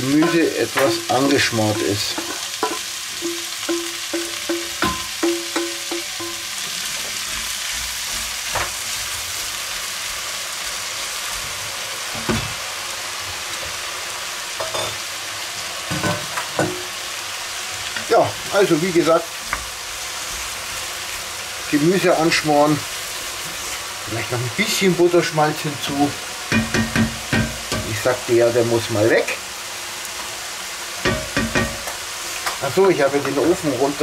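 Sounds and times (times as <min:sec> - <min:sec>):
vegetables sizzling in butter: 0:00.0 - 0:34.0.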